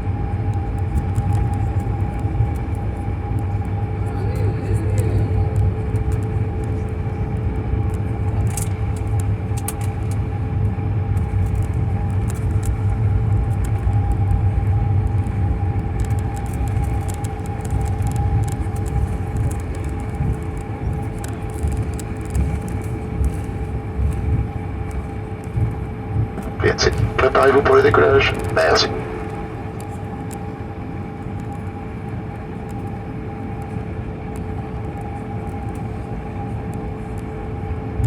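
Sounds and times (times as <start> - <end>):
airliner cabin rumble: 0.0 - 38.0
jet engine whine: 0.0 - 38.0.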